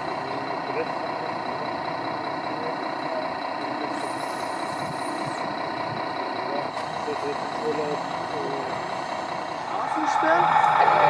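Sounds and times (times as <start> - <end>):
model truck engine sound: 0.0 - 11.0.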